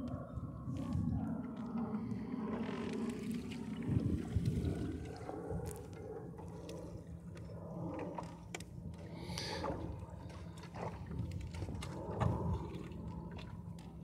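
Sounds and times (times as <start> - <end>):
water gurgling along boat hull: 0.0 - 14.0.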